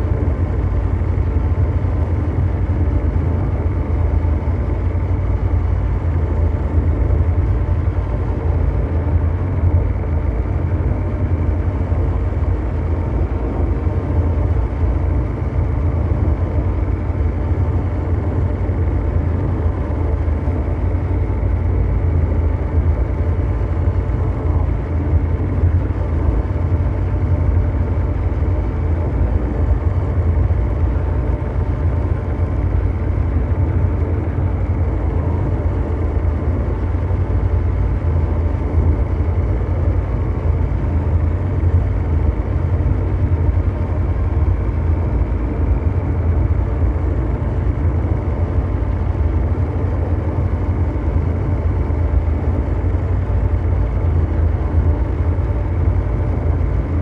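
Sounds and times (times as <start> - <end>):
deep mechanical drone: 0.0 - 57.0.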